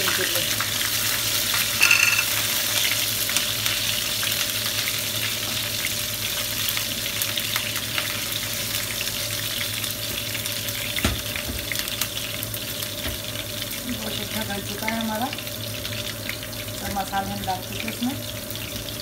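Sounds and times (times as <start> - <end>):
leaves sizzling in hot oil: 0.0 - 19.0.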